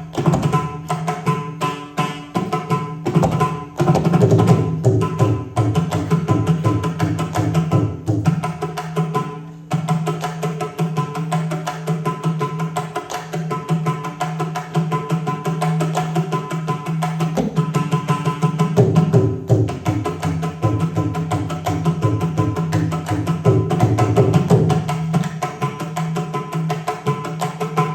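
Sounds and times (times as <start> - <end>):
hand drums playing fast rhythms: 0.0 - 27.9.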